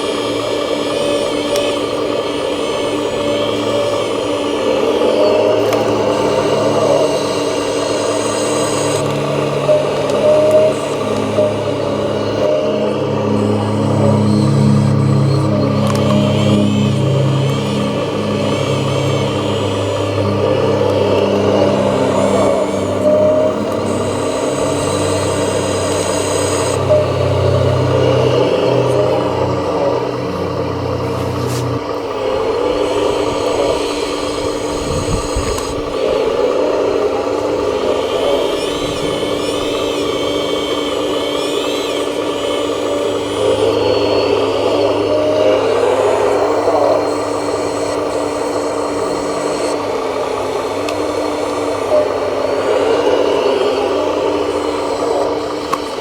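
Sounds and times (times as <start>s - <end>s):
electric motors whirring: 0.0s - 56.0s
high thin whine: 0.0s - 56.0s
low drone: 0.0s - 56.0s.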